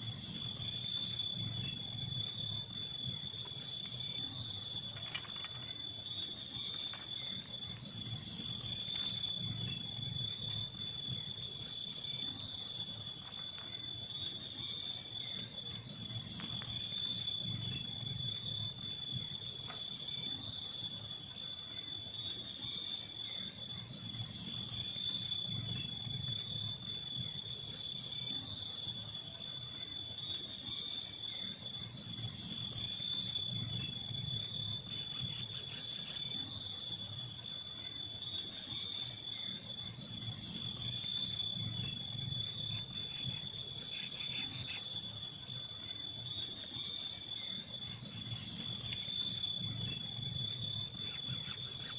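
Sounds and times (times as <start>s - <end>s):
insects calling in chorus: 0.0s - 51.9s.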